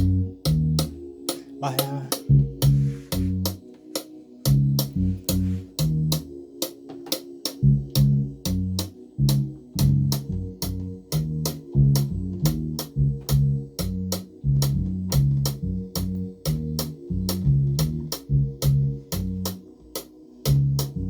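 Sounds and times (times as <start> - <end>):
repeating bass line: 0.0 - 1.0, 1.9 - 3.6, 4.5 - 6.3, 7.6 - 19.7, 20.5 - 21.0
sharp clicking percussion: 0.0 - 21.0.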